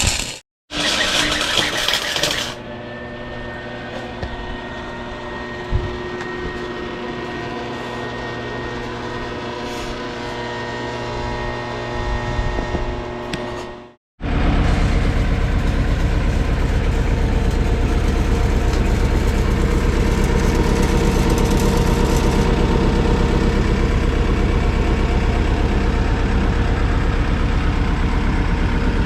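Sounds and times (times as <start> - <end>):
diesel engine running: 0.7 - 13.3, 14.2 - 29.0.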